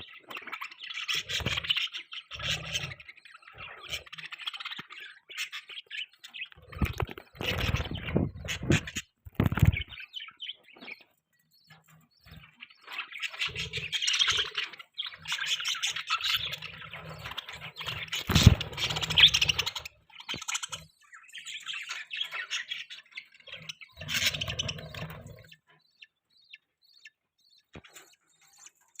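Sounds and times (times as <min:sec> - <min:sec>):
budgerigars chattering and chirping: 0:00.0 - 0:29.0.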